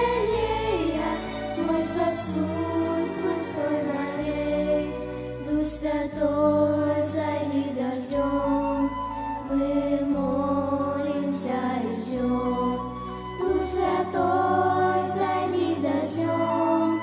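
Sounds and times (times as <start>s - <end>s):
girls singing worship song: 0.0s - 17.0s
instrumental accompaniment with bass: 0.0s - 17.0s.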